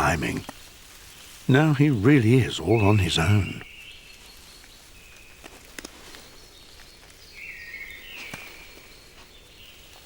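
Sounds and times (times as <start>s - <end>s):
forest ambience: 0.0s - 10.0s.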